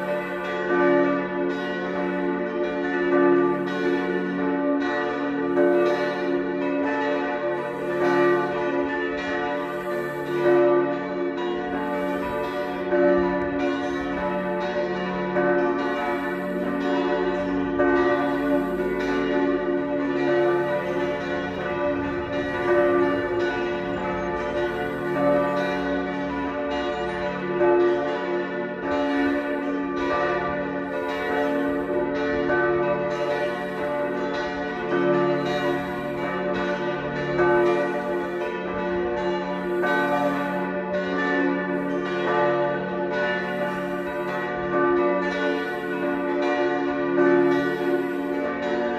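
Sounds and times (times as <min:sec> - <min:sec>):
church bells pealing: 0:00.0 - 0:48.9.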